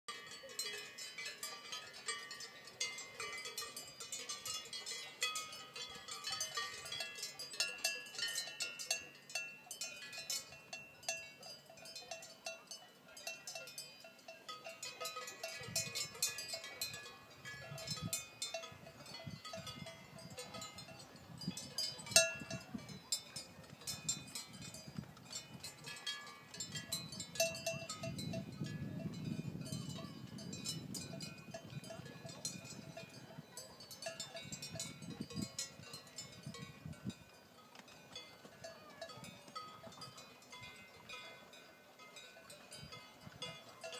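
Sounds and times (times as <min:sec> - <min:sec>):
cowbells clanking: 0:00.1 - 0:43.9.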